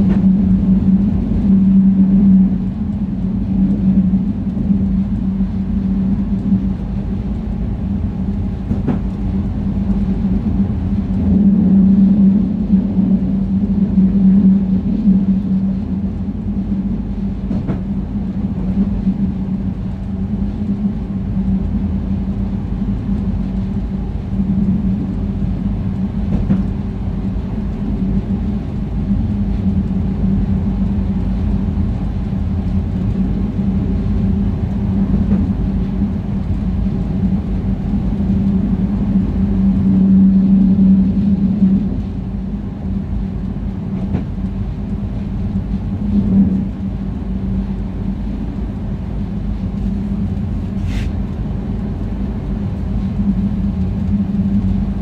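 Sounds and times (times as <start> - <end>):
steady hum: 0.0 - 55.0
train rumbling: 0.0 - 55.0.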